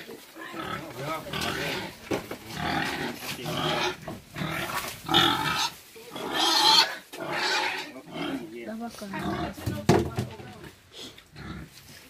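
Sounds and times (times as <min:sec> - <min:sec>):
pigs squealing and grunting: 0:00.0 - 0:09.6, 0:11.3 - 0:11.8.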